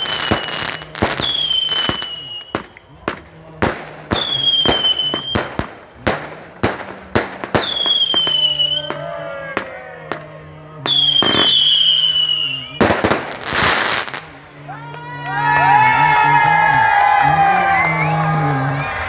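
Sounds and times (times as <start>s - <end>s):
firework bangs: 0.0s - 19.0s
firework crackle: 0.0s - 19.0s
whistling fireworks: 0.0s - 19.0s.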